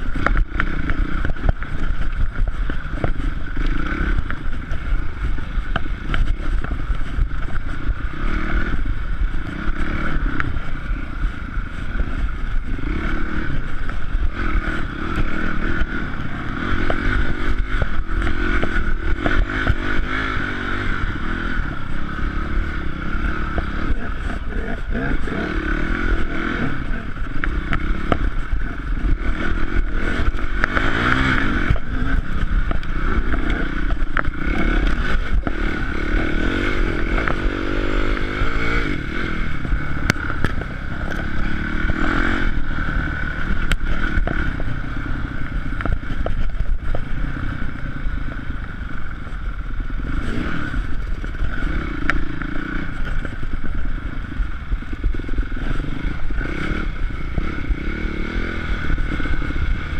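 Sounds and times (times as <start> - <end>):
bike knocking and rattling: 0.0 - 59.9
dirt bike engine revving: 0.0 - 59.9.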